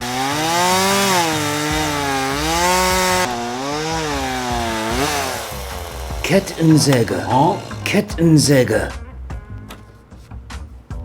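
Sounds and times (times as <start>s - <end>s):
chainsaw engine revving: 0.0s - 9.0s.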